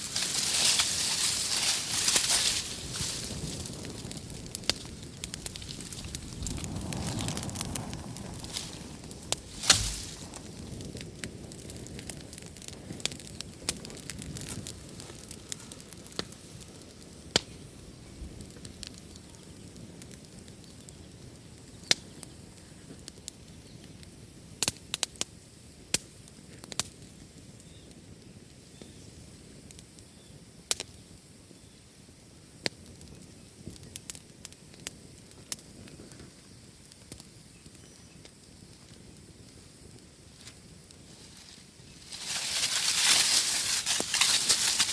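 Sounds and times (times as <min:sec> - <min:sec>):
burning wood popping: 0:00.0 - 0:31.4, 0:32.0 - 0:44.9
fire burning with soft hiss: 0:00.0 - 0:44.9.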